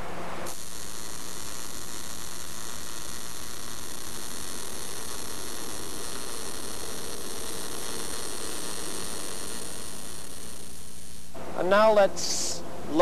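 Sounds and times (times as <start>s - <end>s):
electrical hum: 0.0s - 13.0s
welding arc crackling: 0.4s - 12.6s.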